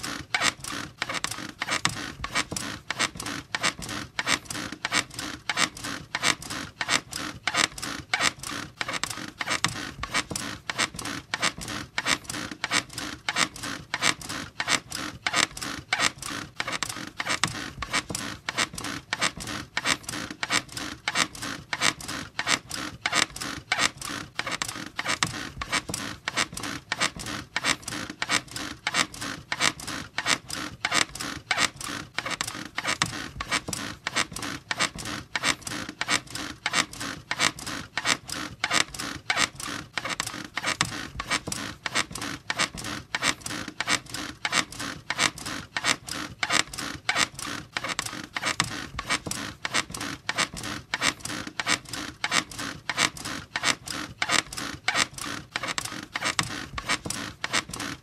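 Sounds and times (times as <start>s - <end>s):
bed squeaking: 0.4s - 58.0s.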